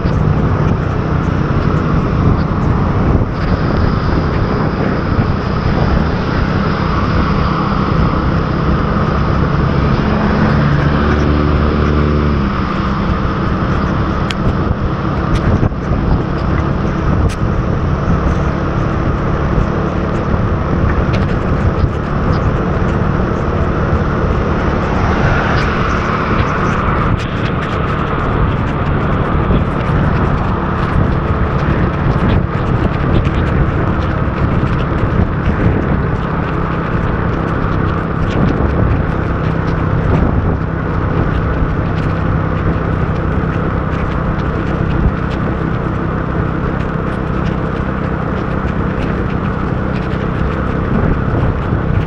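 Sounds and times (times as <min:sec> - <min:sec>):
motorbike engine running: 0:00.0 - 0:52.0
pitched engine drone: 0:00.0 - 0:52.0
wind and road noise: 0:00.0 - 0:52.0.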